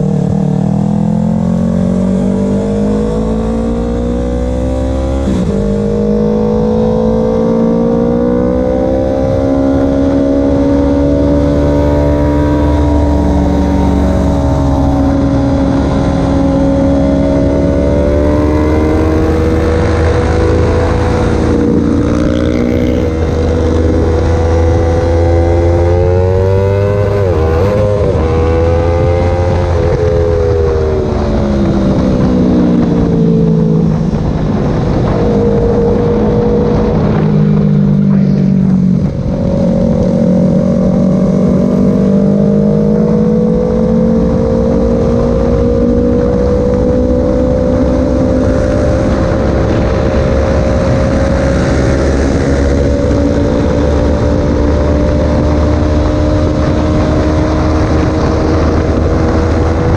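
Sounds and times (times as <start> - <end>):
motorcycle engine revving: 0.0 - 59.9
second motorcycle engine: 0.0 - 59.9.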